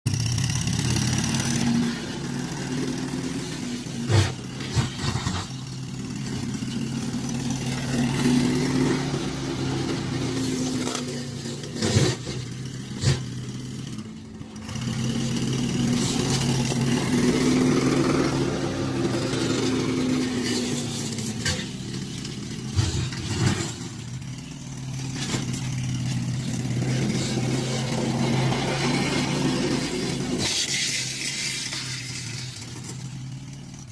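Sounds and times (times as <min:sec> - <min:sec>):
mower motor hum: 0:00.3 - 0:33.9.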